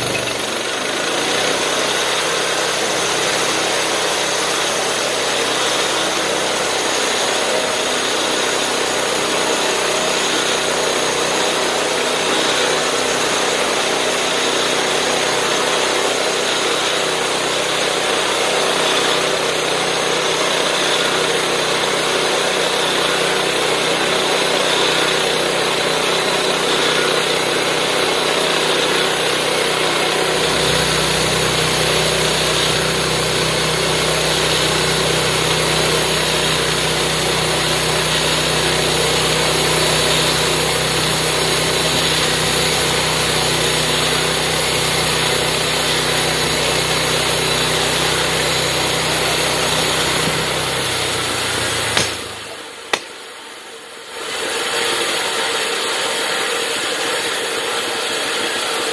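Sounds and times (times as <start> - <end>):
bandsaw sawmill cutting log: 0.0 - 53.4, 54.0 - 58.9.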